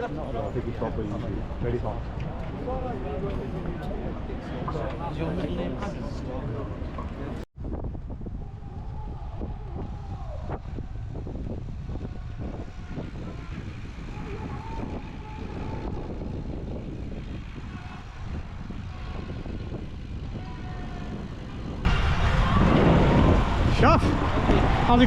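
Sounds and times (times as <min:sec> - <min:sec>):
traffic rumble: 0:00.0 - 0:25.0
wind on microphone: 0:00.0 - 0:25.0.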